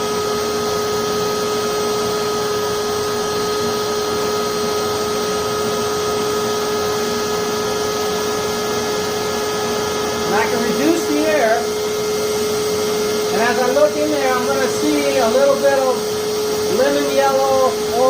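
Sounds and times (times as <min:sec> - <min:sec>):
blower rushing air: 0:00.0 - 0:18.0
constant whine: 0:00.0 - 0:18.0
forge burner roaring: 0:00.0 - 0:18.0.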